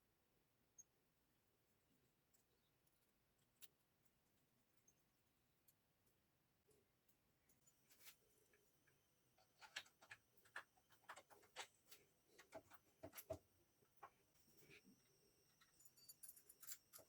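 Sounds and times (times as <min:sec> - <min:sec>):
faint small clicks and ticks: 0:00.7 - 0:17.0.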